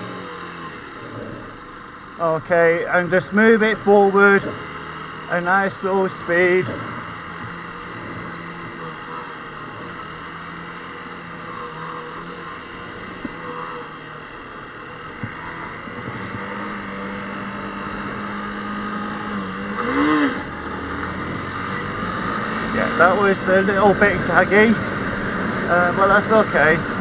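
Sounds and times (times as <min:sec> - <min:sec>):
motorcycle engine running: 0:00.0 - 0:27.0
riding noise rush: 0:00.0 - 0:27.0.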